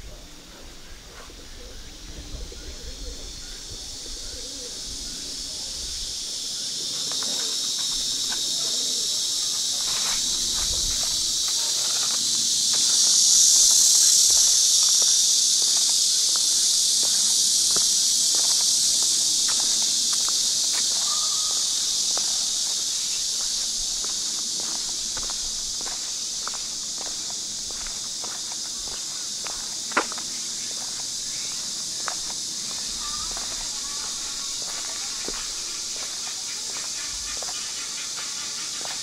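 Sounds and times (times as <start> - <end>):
insects buzzing: 0.0 - 39.0.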